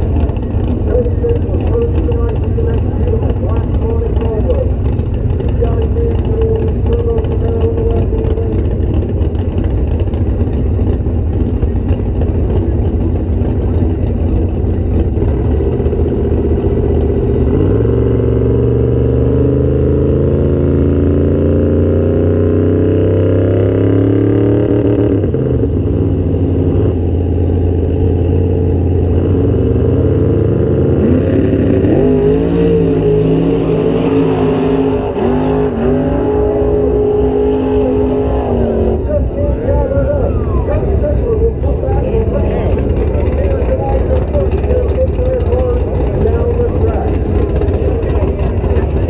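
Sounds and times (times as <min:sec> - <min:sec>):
drag car engine revving: 0:00.0 - 0:49.0.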